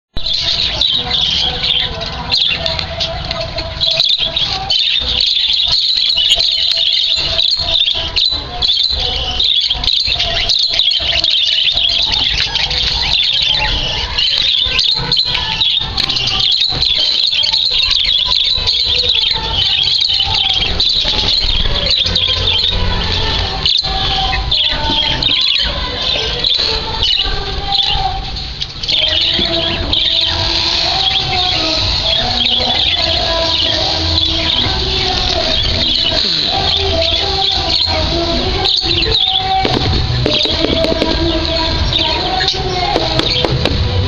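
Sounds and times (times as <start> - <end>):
parrots chattering and screeching: 0.2 - 44.0.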